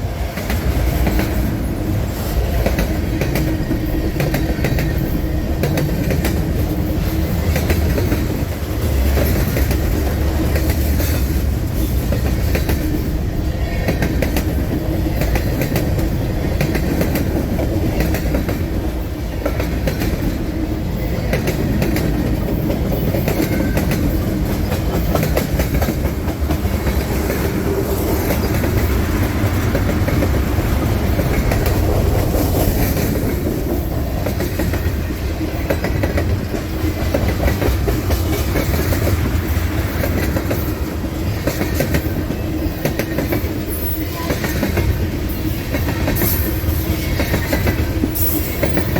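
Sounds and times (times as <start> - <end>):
freight train rumbling past: 0.0 - 48.9
wheels clicking over rail joints: 0.3 - 48.9.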